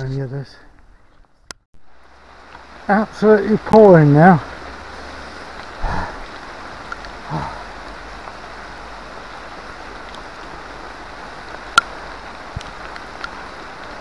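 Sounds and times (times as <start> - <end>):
heavy rain pouring: 1.8 - 14.0.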